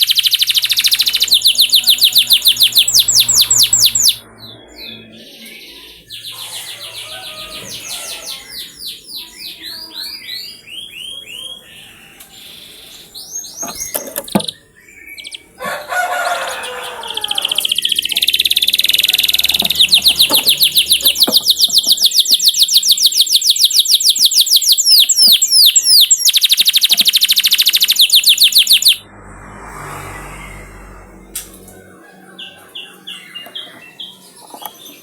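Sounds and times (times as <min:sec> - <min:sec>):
canary singing: 0:00.0 - 0:29.1, 0:31.6 - 0:35.0.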